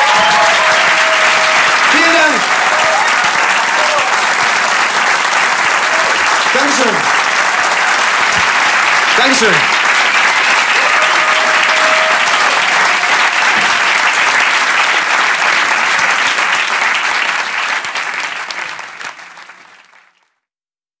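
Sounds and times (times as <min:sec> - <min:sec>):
audience applauding: 0:00.0 - 0:20.4.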